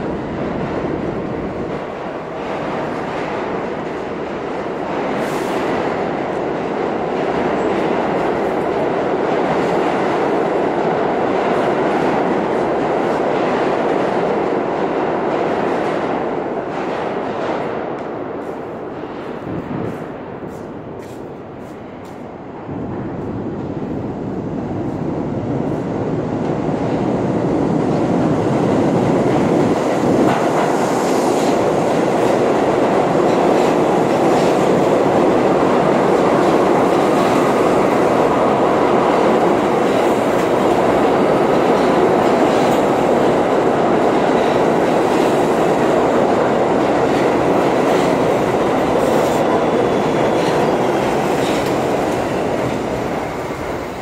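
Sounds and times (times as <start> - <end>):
subway train rumble and wheel clatter: 0.0 - 54.0.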